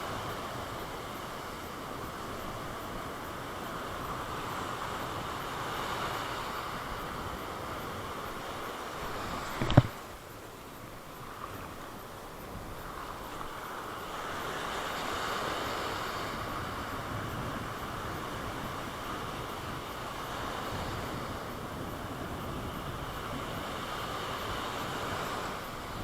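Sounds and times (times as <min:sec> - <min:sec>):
wind on microphone: 0:00.0 - 0:10.4, 0:11.0 - 0:26.0
sea surf: 0:00.0 - 0:26.0.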